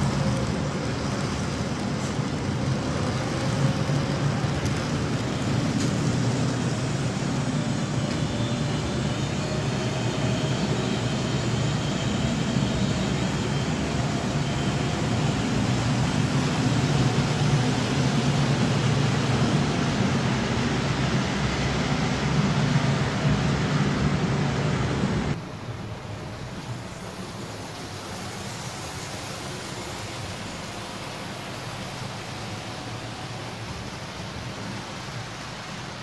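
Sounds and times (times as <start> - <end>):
model train wheels rumbling: 0.0 - 36.0.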